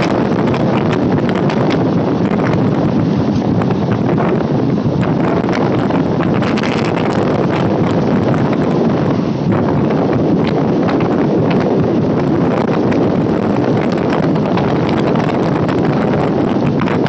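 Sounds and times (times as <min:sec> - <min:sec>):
wind rushing on microphone: 0:00.0 - 0:17.0.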